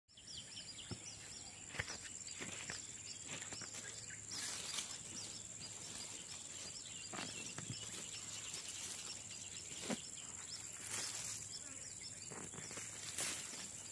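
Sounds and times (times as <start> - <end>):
insects droning: 0.1 - 13.9.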